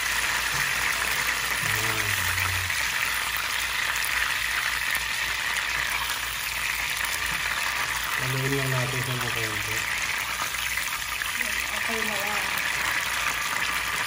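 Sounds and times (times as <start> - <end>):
butter sizzling in frying pan: 0.0 - 14.0.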